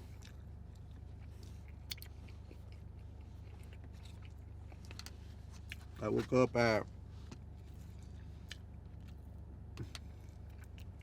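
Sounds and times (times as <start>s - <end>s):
chewing food: 0.0s - 6.0s, 7.3s - 11.0s
steady low hum: 0.0s - 11.0s.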